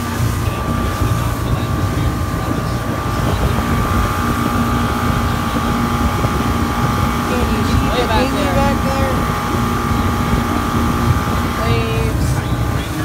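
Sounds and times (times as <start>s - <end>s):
outboard motors running: 0.0s - 13.0s
steady whine: 0.0s - 13.0s
wind buffeting microphone: 0.0s - 13.0s.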